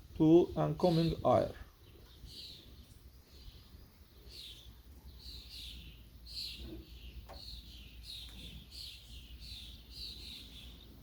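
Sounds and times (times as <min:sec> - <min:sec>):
small bird chirping: 0:00.1 - 0:11.0.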